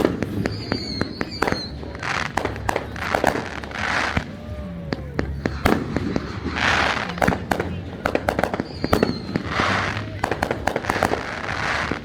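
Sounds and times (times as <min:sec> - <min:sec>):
fireworks bangs and crackling: 0:00.0 - 0:12.0
high whistling firework: 0:00.0 - 0:12.0.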